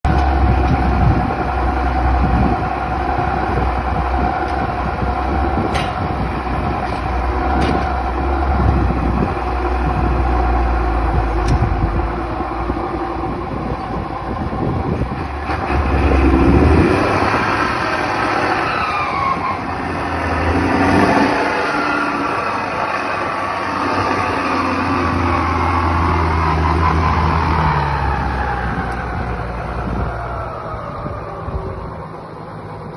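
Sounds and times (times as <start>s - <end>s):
vehicle engine low rumble: 0.0s - 32.9s.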